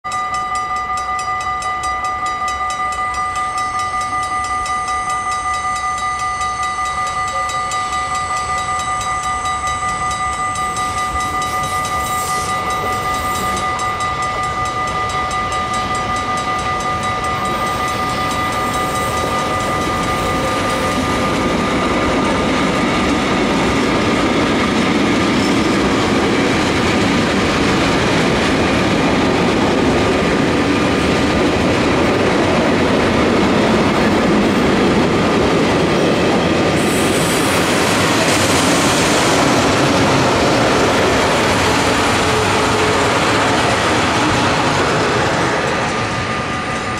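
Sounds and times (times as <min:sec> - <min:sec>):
freight train passing: 0:00.0 - 0:46.9.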